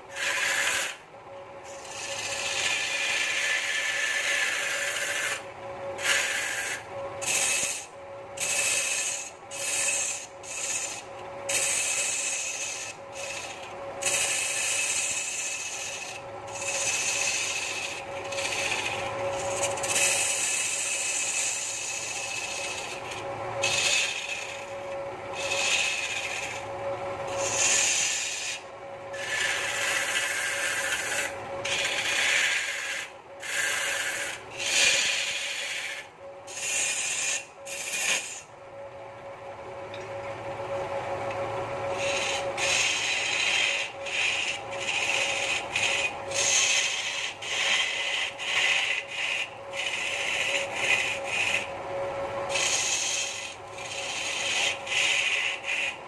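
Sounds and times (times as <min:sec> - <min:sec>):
tool scraping spinning wood: 0:00.0 - 0:38.5, 0:40.3 - 0:56.0
lathe humming: 0:00.0 - 0:56.0.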